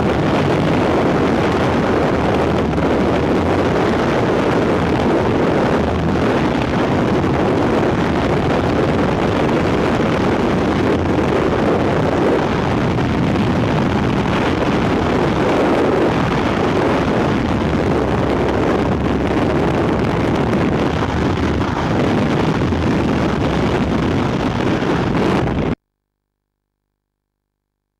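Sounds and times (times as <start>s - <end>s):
wind rushing over microphone: 0.0s - 25.8s.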